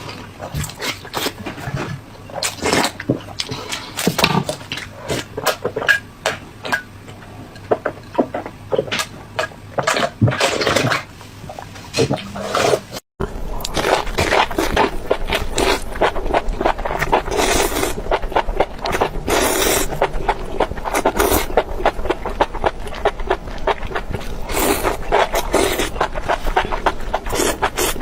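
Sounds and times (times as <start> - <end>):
crunching and chewing food: 0.0 - 28.0.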